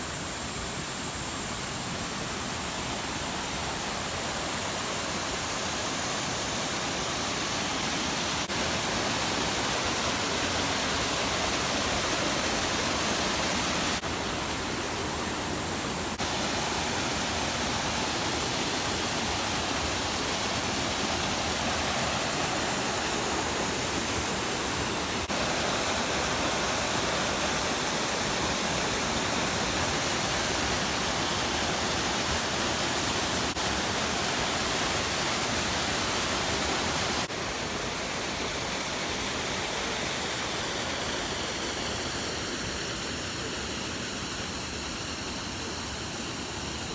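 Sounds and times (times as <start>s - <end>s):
waterfall rushing: 0.6s - 45.0s.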